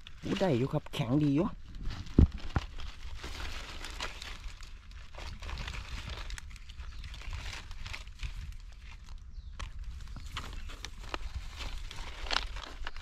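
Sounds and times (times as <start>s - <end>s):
dry leaf litter rustling: 0.0s - 13.0s.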